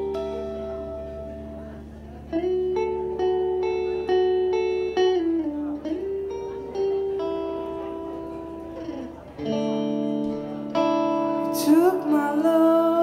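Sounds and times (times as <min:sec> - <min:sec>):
electric guitar through amplifier: 0:00.0 - 0:13.0.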